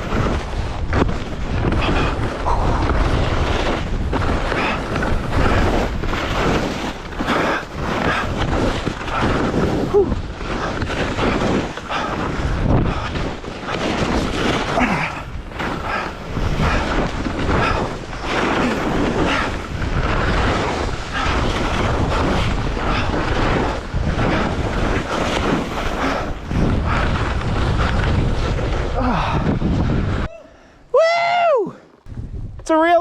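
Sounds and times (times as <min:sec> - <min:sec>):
skis scraping on snow: 0:00.0 - 0:30.3
wind on microphone: 0:00.0 - 0:33.0.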